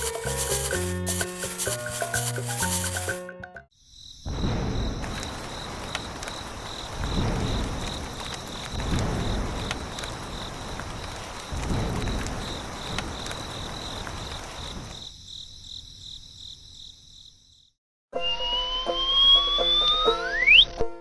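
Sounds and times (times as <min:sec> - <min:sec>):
crickets chirping: 0:00.0 - 0:17.8.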